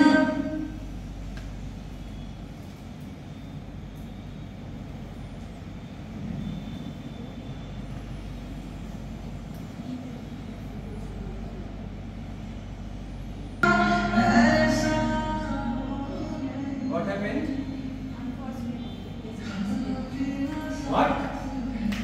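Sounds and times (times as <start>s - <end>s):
low room rumble and hum: 0.0s - 22.0s.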